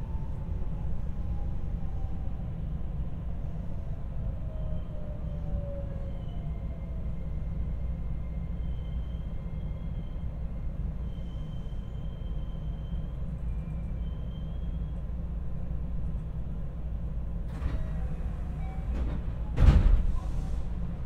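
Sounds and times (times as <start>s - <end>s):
train rumbling at platform: 0.0s - 21.0s.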